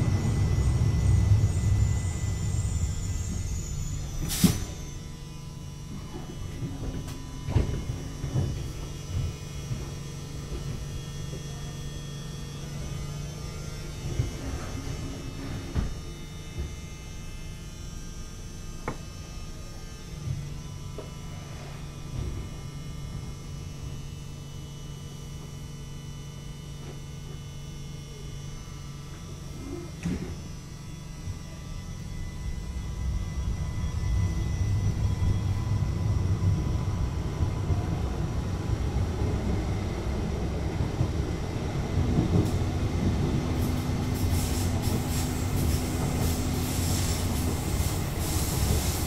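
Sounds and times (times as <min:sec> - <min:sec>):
light-rail car slowing to a halt: 0:00.0 - 0:49.0.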